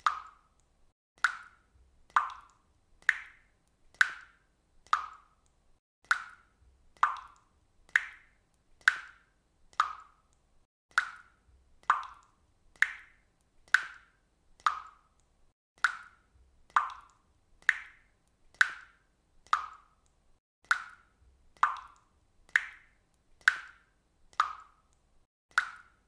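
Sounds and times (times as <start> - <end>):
water dripping from faucet: 0.0 - 26.0.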